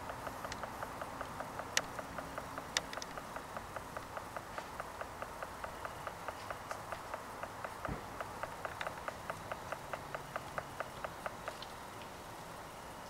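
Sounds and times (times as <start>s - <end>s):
woodpecker tapping on bark: 0.0s - 12.2s.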